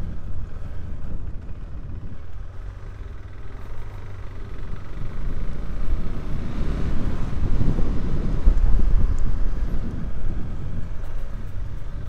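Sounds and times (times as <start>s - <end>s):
wind buffeting helmet mic: 0.0s - 12.0s.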